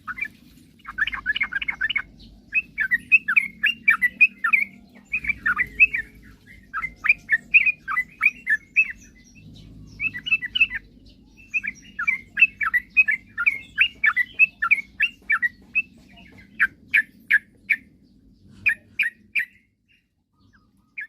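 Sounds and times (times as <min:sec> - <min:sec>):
bulbul chirping song: 0:00.0 - 0:21.0.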